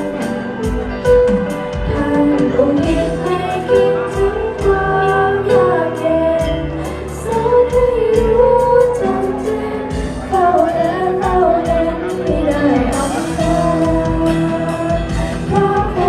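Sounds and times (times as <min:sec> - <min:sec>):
person singing: 0:00.0 - 0:16.0.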